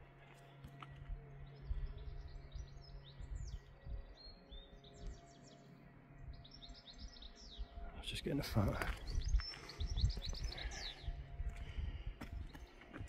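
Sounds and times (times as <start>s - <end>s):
songbird twittering: 0.8s - 13.0s.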